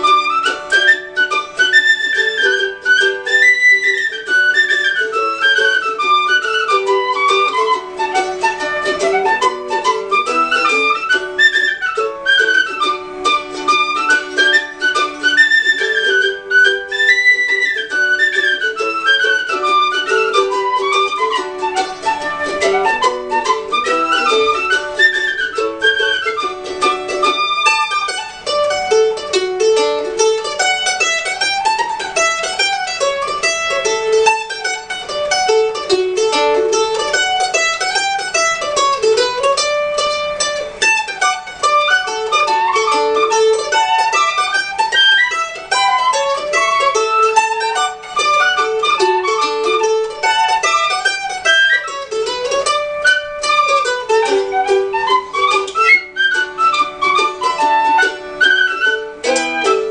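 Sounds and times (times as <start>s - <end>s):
mandolin picking: 0.0s - 59.9s
tin whistle melody: 0.0s - 59.9s.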